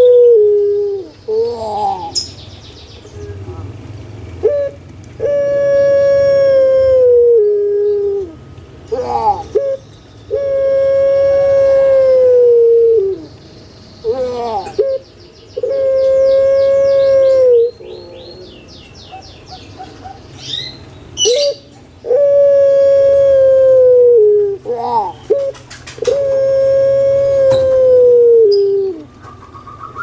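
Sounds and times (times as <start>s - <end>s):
dove cooing: 0.0s - 2.2s, 4.4s - 13.4s, 14.0s - 20.6s, 21.2s - 30.0s.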